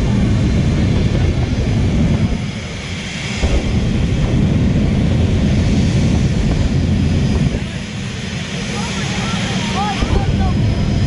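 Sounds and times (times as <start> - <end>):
racing car engines rumbling: 0.0 - 11.0.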